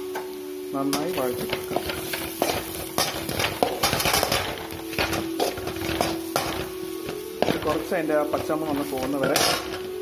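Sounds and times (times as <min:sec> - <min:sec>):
metal spoon scraping a pan: 0:00.9 - 0:10.0.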